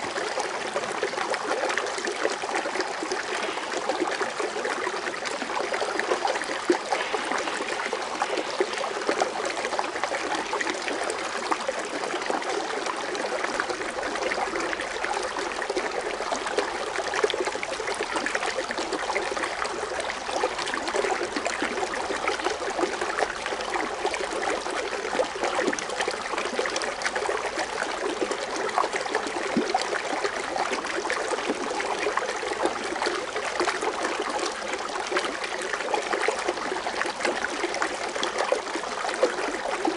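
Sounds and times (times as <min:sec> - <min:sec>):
water fountain splashing: 0:02.1 - 0:39.9.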